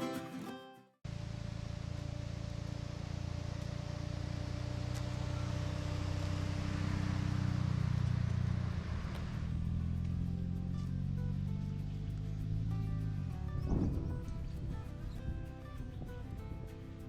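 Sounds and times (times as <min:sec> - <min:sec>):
car engine and road drone: 0:01.1 - 0:17.0.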